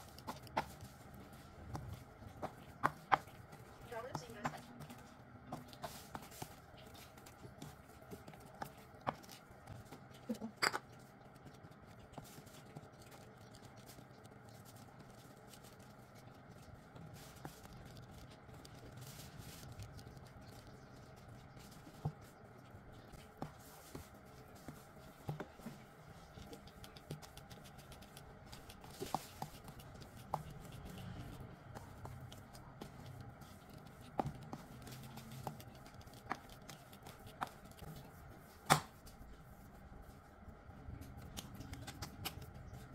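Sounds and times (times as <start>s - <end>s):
spoon mixing dough in bowl: 0.0s - 42.9s.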